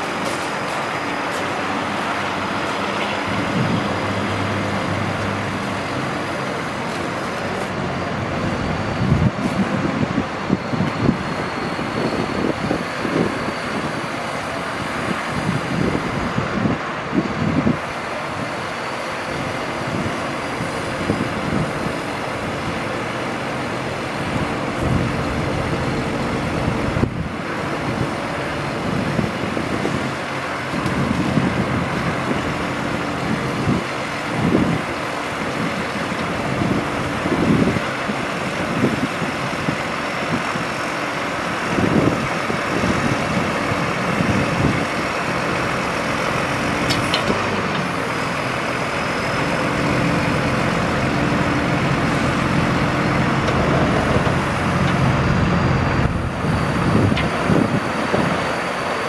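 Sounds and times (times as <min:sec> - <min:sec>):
truck engine humming: 0:00.0 - 0:59.0.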